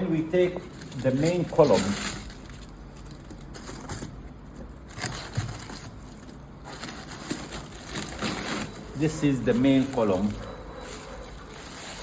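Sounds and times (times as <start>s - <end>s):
faint rustling: 0.4s - 12.0s.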